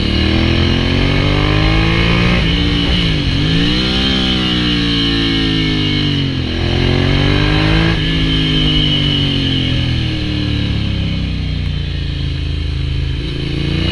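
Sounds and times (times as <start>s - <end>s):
motorcycle engine changing speed: 0.0s - 13.9s.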